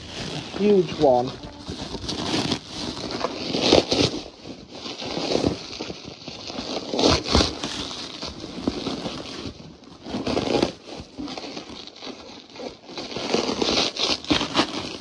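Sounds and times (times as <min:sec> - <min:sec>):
bubble wrap crinkling and scraping: 0:00.0 - 0:15.0.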